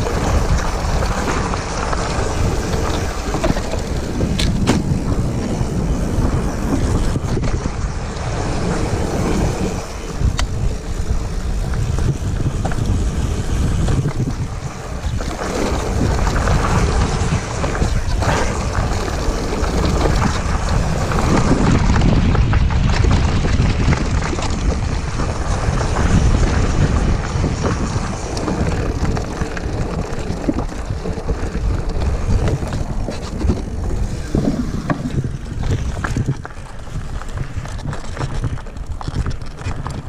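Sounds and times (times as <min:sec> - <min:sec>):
bike rattling and knocking: 0:00.0 - 0:40.0
tyres crunching over dirt: 0:00.0 - 0:40.0
wind buffeting microphone: 0:00.0 - 0:40.0.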